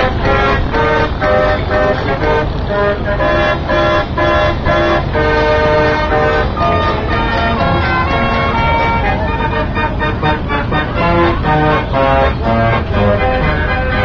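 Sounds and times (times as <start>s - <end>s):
horn playing a tune: 0.0s - 14.0s
loud steady low rumble: 0.0s - 14.0s.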